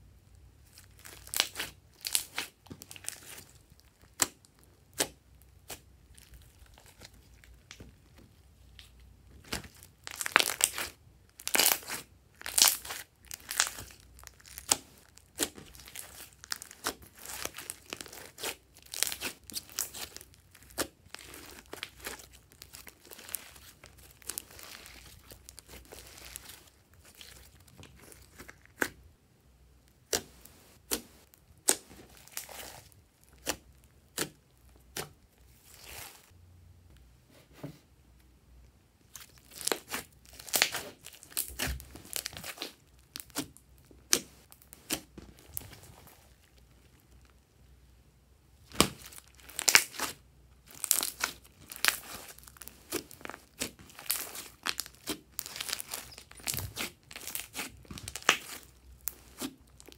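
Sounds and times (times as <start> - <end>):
hands squishing slime: 0.6 - 29.1, 29.9 - 36.3, 39.1 - 47.1, 48.6 - 59.9.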